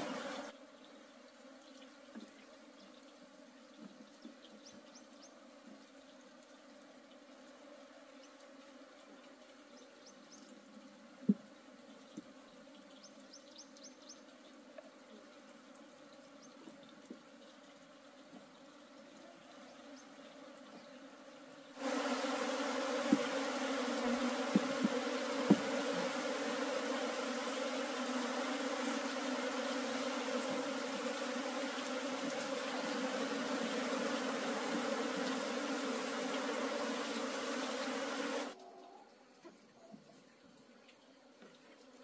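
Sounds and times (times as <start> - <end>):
honeybees buzzing: 0.0 - 38.6.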